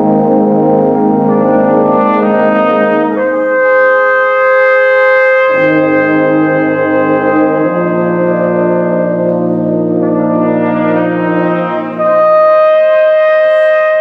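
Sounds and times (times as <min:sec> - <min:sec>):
wind band playing chords: 0:00.0 - 0:14.0.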